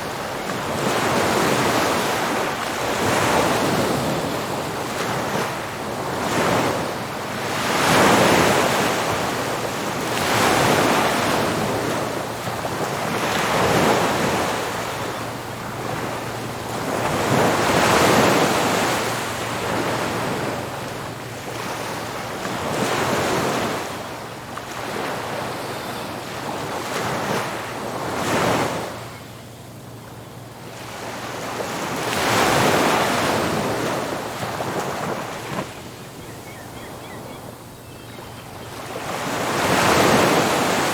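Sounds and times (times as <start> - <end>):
ocean surf breaking on beach: 0.0 - 29.1, 30.7 - 36.2, 38.8 - 40.9.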